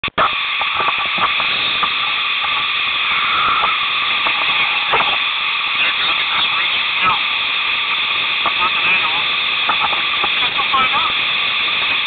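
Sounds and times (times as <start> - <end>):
rushing whitewater: 0.1 - 12.0.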